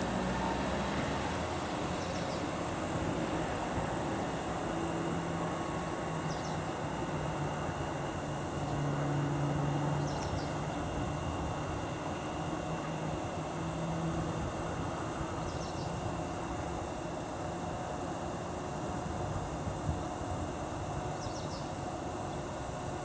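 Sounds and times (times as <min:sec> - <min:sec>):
train equipment hum: 0:00.0 - 0:20.8.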